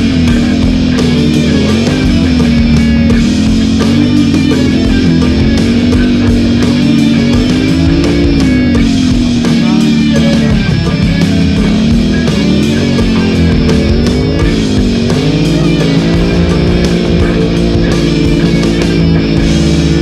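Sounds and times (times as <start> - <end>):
rock music with guitar and drums: 0.0 - 20.0.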